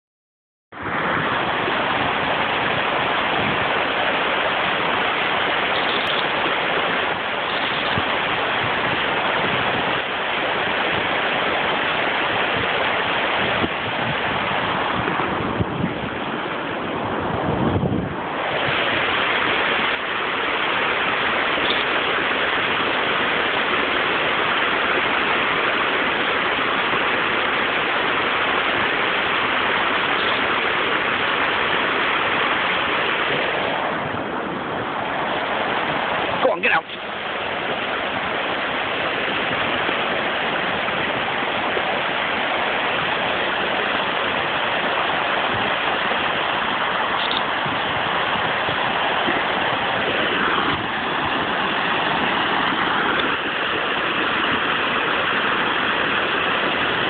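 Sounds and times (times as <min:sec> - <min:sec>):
stream water flowing: 0:00.7 - 0:57.0
small waterfall: 0:00.8 - 0:57.0.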